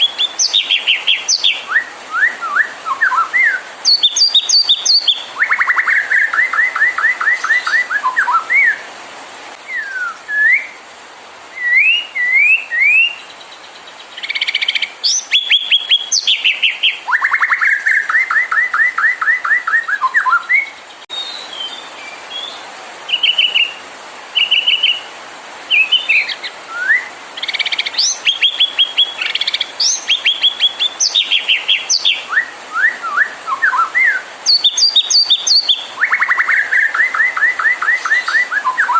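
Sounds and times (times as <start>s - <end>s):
songbird singing: 0.0s - 9.0s, 9.6s - 38.9s.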